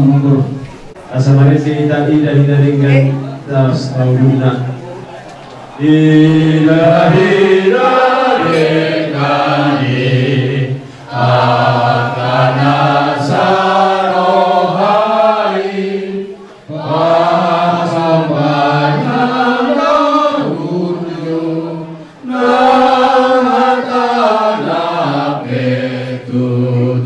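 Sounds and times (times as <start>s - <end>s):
group singing a hymn: 0.0s - 27.0s.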